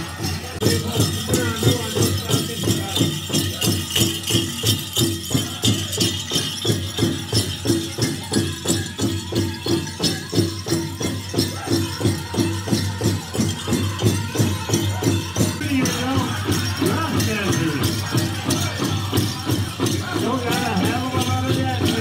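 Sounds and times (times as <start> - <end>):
bells and jingles jingling: 0.0 - 22.0
high-pitched group singing: 0.0 - 22.0.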